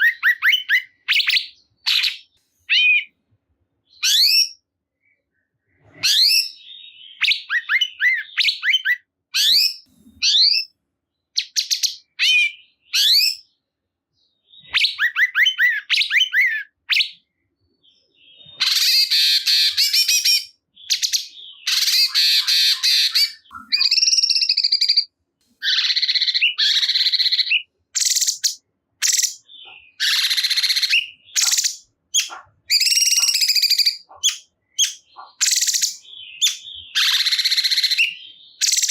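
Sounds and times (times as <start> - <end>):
songbird singing: 0.0 - 3.2, 3.8 - 38.9.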